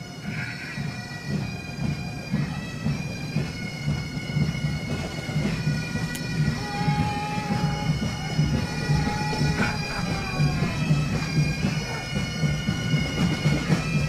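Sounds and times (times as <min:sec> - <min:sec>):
bagpipes playing a march: 0:00.0 - 0:14.0
marching drums beating: 0:00.0 - 0:14.0.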